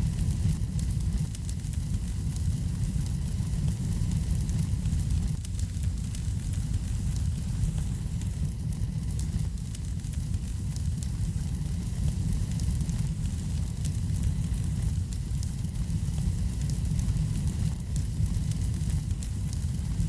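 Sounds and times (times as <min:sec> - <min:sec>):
wood fire burning: 0:00.0 - 0:20.0.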